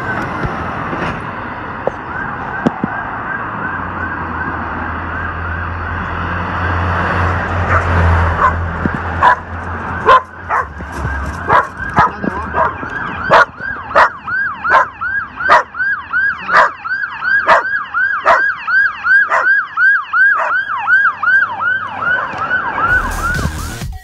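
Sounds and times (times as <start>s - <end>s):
fire engine siren yelping: 0.0s - 23.8s.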